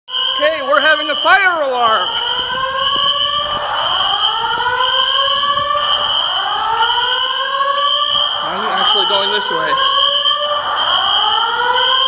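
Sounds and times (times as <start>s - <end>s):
fire alarm whoop tone: 0.1s - 12.0s
steady high-pitched alarm tone: 0.1s - 12.0s.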